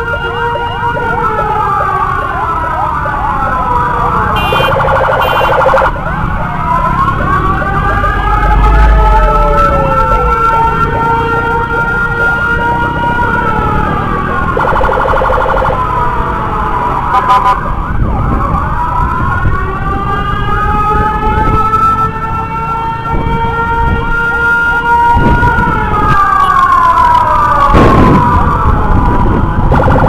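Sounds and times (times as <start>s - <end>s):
sirens wailing: 0.0s - 30.0s
sirens yelping: 0.0s - 30.0s.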